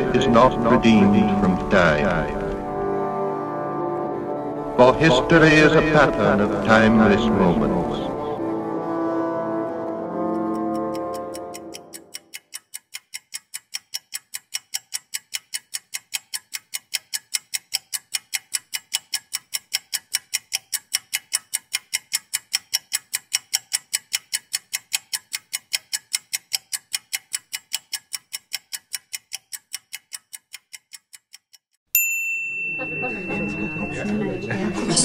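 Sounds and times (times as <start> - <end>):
clock ticking fast: 0.0 - 3.0, 4.8 - 8.2, 10.1 - 31.8.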